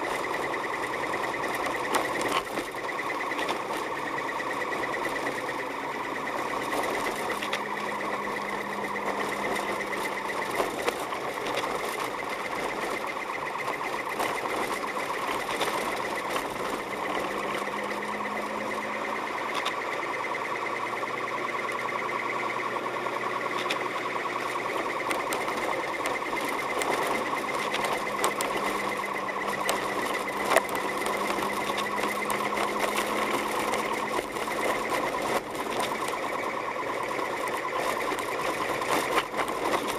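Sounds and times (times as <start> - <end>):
car engine buzz inside cabin: 0.0 - 39.9.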